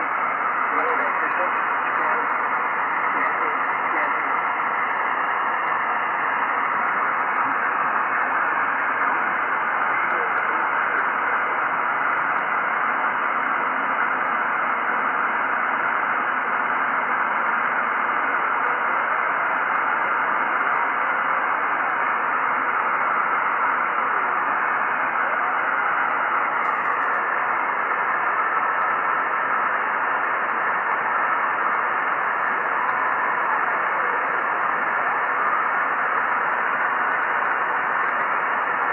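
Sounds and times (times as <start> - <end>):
radio receiver hiss: 0.0 - 38.9.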